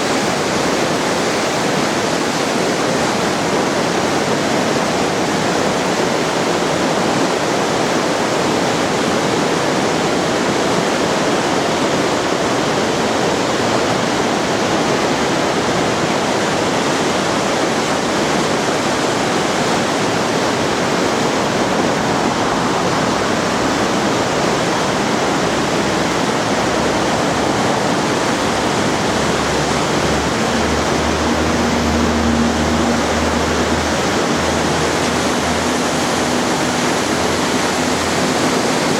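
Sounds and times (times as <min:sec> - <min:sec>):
waterfall pouring: 0:00.0 - 0:38.9.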